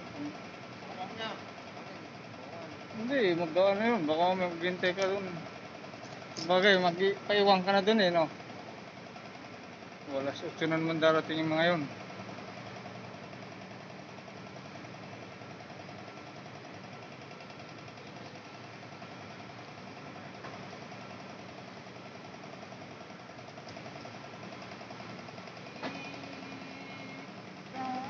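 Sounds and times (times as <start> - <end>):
milling machine humming: 0.0 - 28.0.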